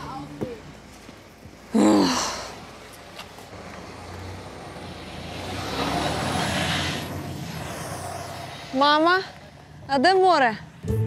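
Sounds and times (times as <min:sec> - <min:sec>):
bus engine pulling away: 0:00.0 - 0:11.0.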